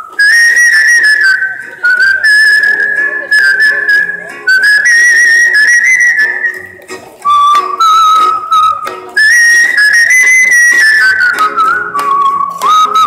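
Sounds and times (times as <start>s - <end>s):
faint lower accompaniment: 0.0s - 13.0s
whistle-like dance melody: 0.0s - 13.0s.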